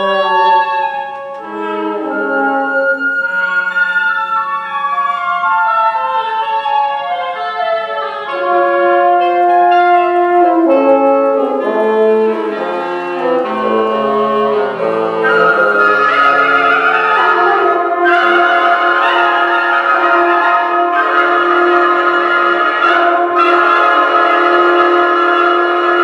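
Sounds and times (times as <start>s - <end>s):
french horn: 0.0s - 3.6s, 8.3s - 26.0s
low bassoon notes: 0.0s - 5.4s, 8.2s - 26.0s
clarinet: 0.0s - 26.0s
flute: 0.0s - 26.0s
oboe: 0.0s - 26.0s.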